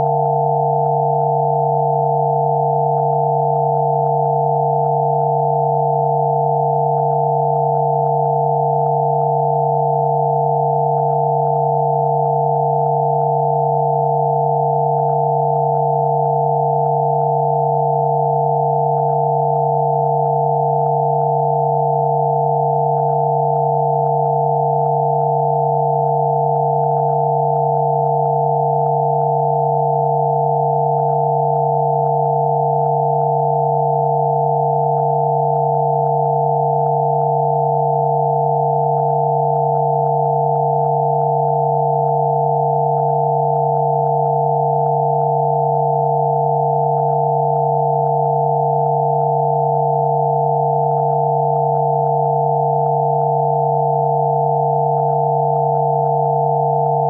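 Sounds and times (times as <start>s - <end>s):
steady sine tones: 0.0s - 57.0s.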